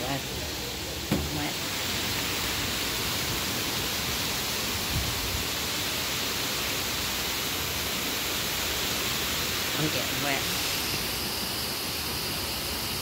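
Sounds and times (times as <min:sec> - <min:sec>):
heavy rain on leaves and water: 0:00.0 - 0:13.0.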